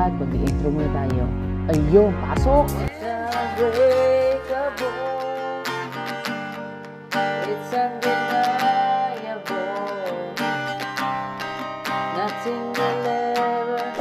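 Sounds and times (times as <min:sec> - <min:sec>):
acoustic guitar strumming: 0:00.0 - 0:14.0
person singing: 0:00.0 - 0:14.0.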